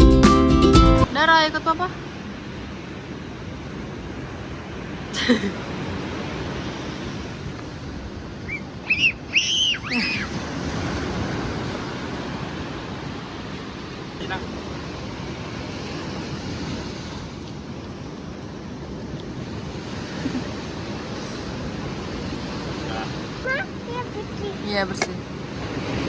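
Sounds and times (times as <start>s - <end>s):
ocean surf: 0.0s - 26.0s
wind: 1.0s - 26.0s.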